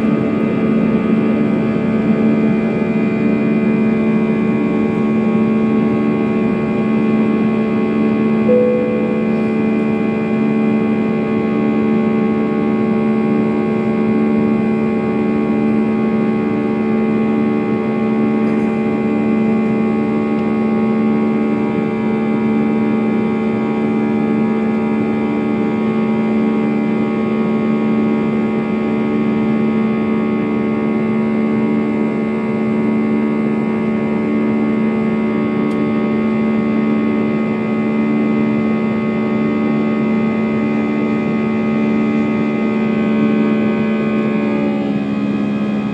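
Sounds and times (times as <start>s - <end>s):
jet engines roaring in cabin: 0.0s - 45.9s.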